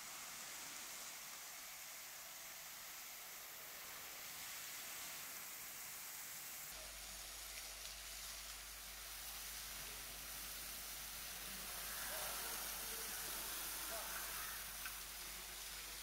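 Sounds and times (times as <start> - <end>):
water jet hissing on hot debris: 0.0 - 16.0.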